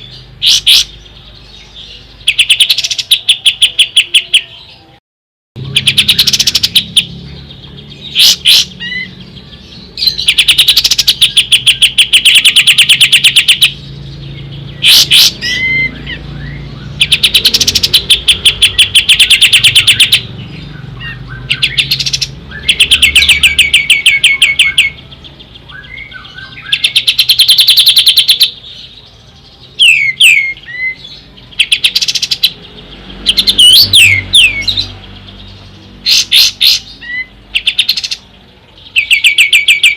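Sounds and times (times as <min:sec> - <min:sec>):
songbird singing: 0:00.0 - 0:05.0, 0:05.6 - 0:39.9.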